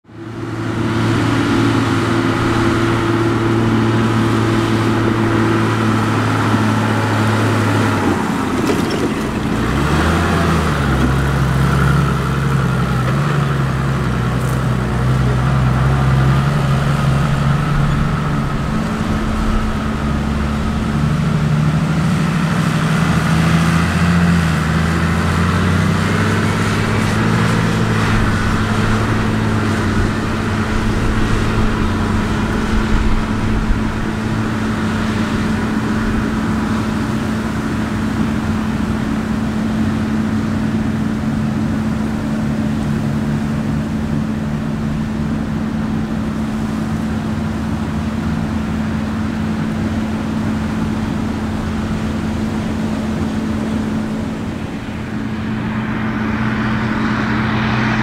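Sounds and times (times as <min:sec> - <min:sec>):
farm machinery engine drone: 0:00.0 - 0:58.0.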